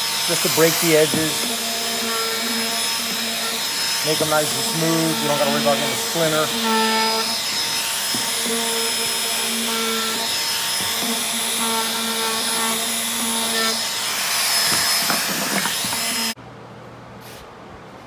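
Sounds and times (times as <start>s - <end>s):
trim router motor whining: 0.0s - 16.4s.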